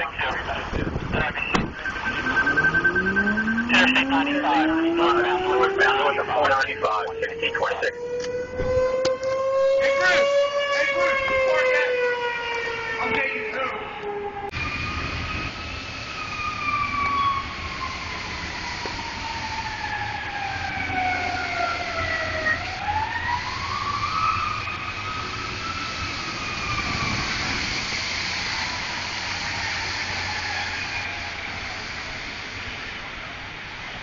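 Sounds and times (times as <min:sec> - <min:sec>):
fire siren winding: 0:01.7 - 0:31.8.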